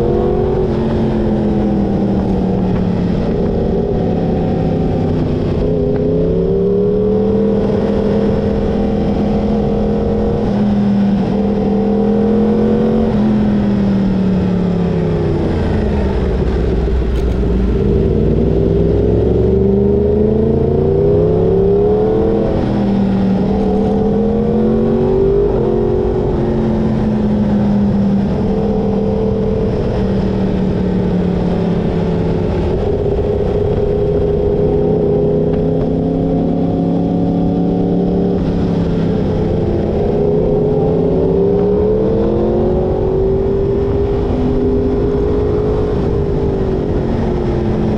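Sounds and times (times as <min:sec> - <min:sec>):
motorcycle engine revving: 0:00.0 - 0:47.9
wind and road noise: 0:00.0 - 0:47.9.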